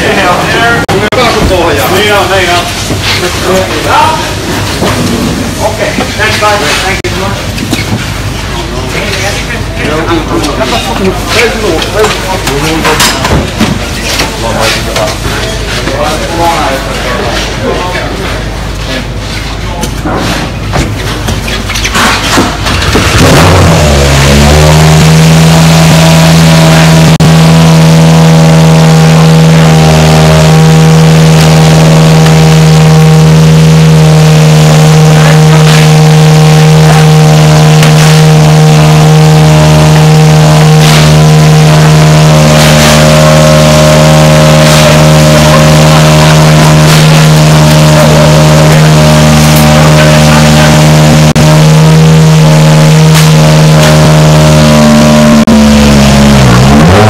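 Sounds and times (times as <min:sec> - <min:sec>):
rally car engine running: 0:00.0 - 0:57.0.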